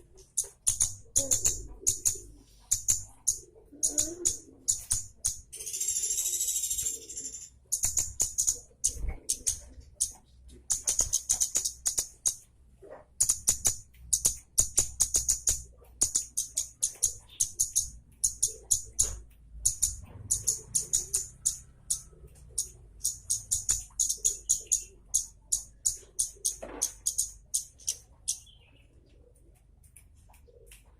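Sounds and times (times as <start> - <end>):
songbird chattering song: 0.0 - 12.4, 13.2 - 29.2.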